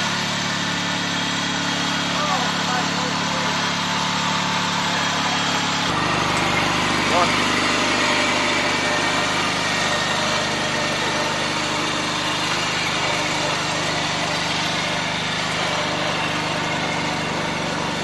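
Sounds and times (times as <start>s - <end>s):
riding lawn mower engine running: 0.0s - 18.0s.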